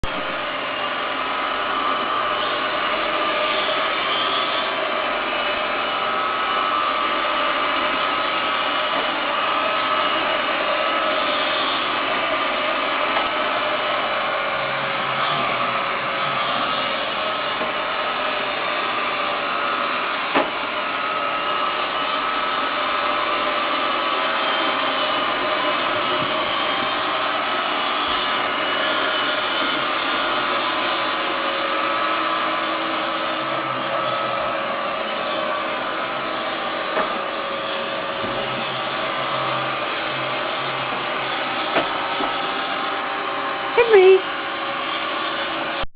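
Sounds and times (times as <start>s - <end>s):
robot vacuum whirring: 0.1s - 45.8s.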